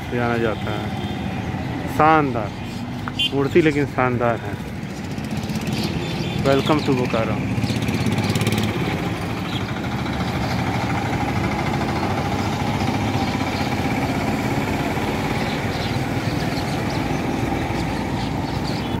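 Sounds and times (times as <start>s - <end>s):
road traffic engines: 0.0s - 19.0s.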